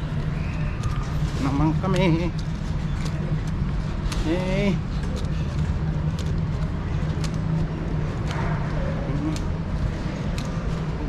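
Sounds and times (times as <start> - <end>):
car driving drone: 0.0 - 11.0.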